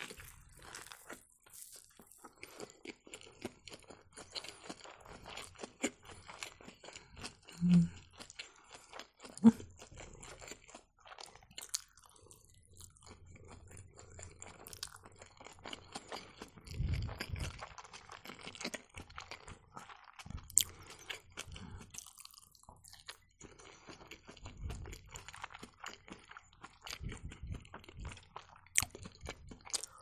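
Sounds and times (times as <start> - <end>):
chewing and crunching food: 0.0 - 30.0.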